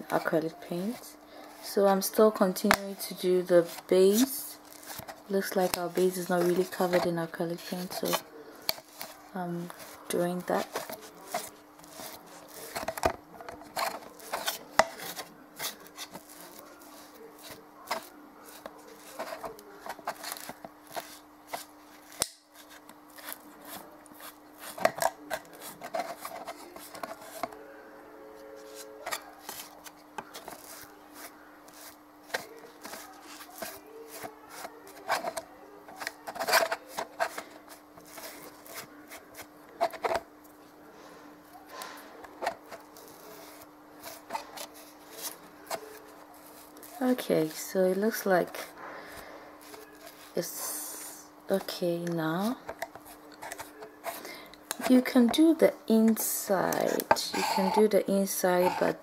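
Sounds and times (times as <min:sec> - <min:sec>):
faint hum: 0:00.0 - 0:59.0.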